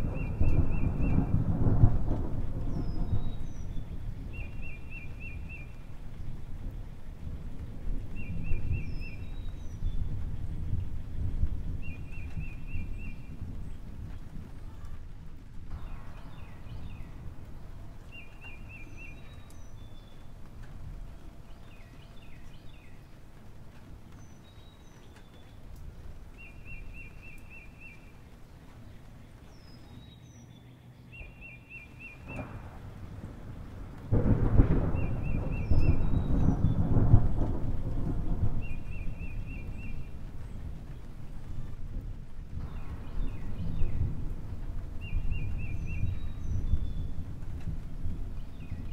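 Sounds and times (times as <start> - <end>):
low rumbling noise: 0.0 - 48.9.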